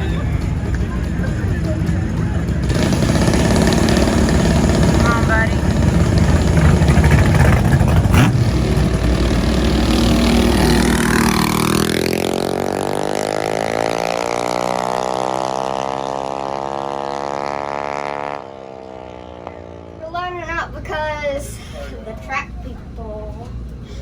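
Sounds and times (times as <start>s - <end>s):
vehicle engine passing: 0.0s - 24.0s.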